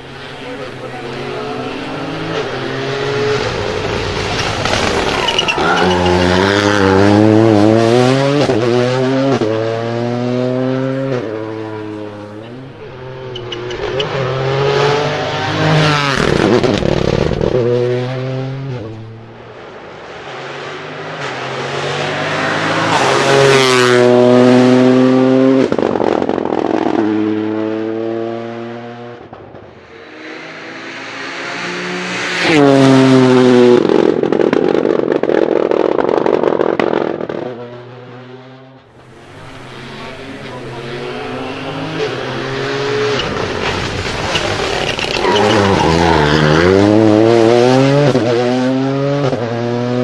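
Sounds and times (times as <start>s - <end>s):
rally car engines passing: 0.0s - 50.0s.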